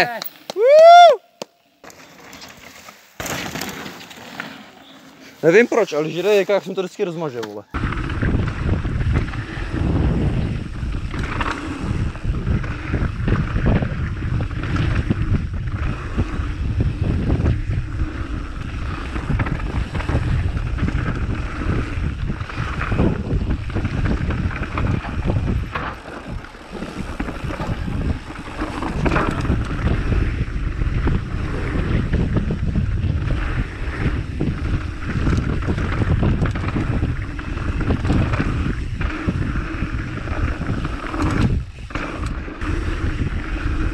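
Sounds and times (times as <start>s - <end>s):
wind buffeting microphone: 7.7s - 43.9s.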